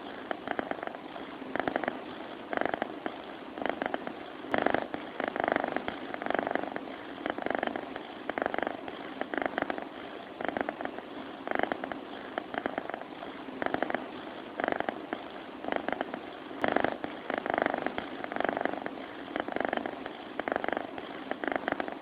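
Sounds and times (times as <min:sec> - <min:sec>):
sleeping cat rattling purr: 0:00.0 - 0:22.0.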